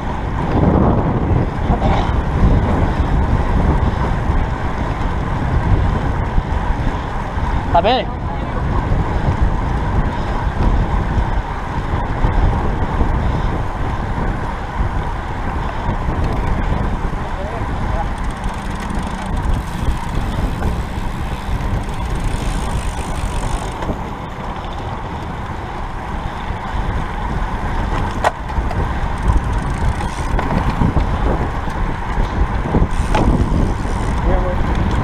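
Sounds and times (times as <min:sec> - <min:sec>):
tyre noise on asphalt: 0:00.0 - 0:35.0
wind rushing over microphone: 0:00.0 - 0:35.0.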